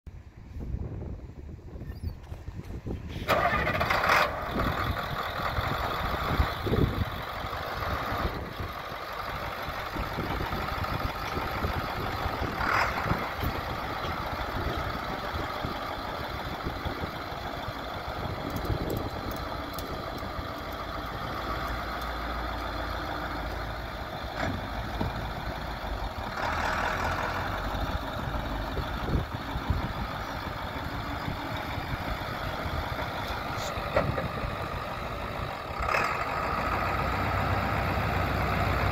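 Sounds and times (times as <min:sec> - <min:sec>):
diesel truck engine running: 0:02.3 - 0:38.9.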